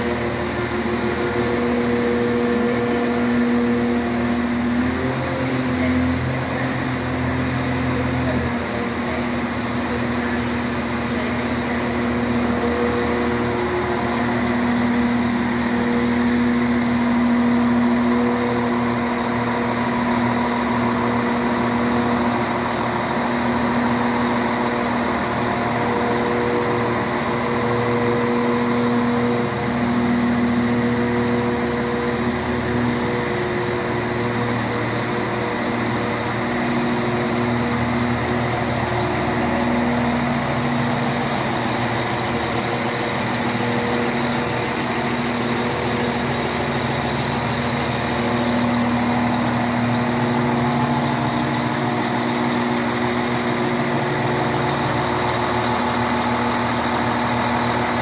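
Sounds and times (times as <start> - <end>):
train diesel engine hum: 0.0 - 58.0.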